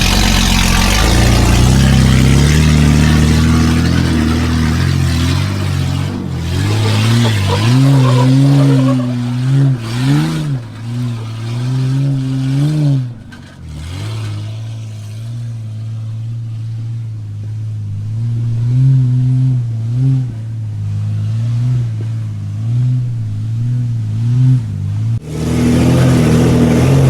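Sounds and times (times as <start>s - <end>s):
engine revving without exhaust: 0.0s - 27.0s.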